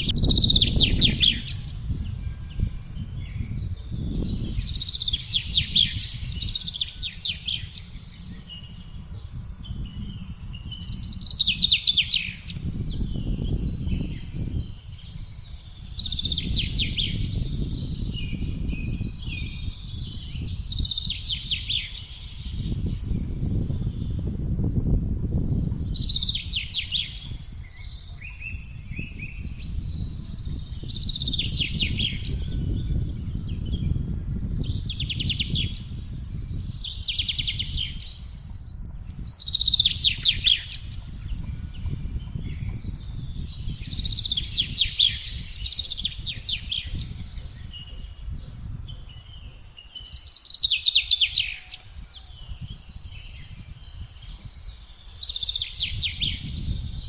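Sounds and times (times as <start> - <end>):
songbirds trilling: 0.0 - 57.0
wind gusting: 0.0 - 57.0.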